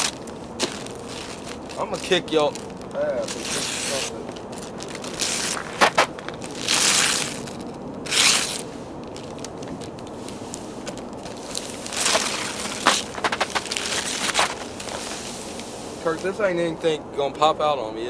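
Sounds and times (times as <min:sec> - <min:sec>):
wrapping paper tearing: 0:00.0 - 0:15.3.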